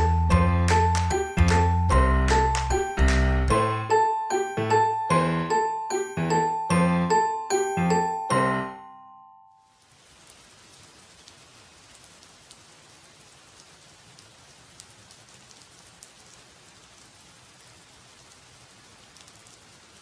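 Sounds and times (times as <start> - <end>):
steady rainfall: 0.0 - 8.1, 9.6 - 20.0.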